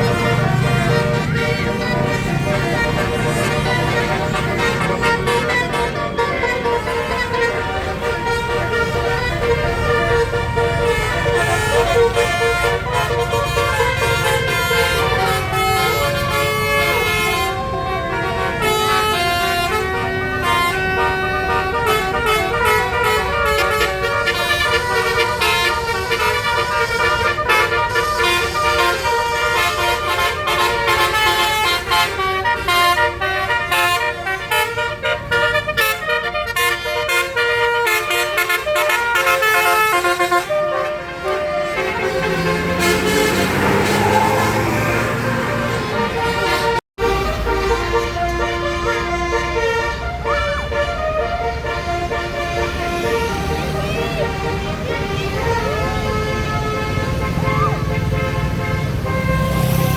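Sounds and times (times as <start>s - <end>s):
bus engine rumble: 0.0s - 59.9s
multi-note air horn melody: 0.0s - 59.9s.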